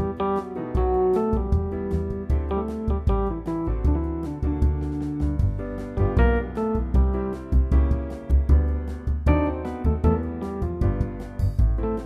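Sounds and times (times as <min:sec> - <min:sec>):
bass line: 0:00.0 - 0:12.0
keyboard chords: 0:00.0 - 0:12.0.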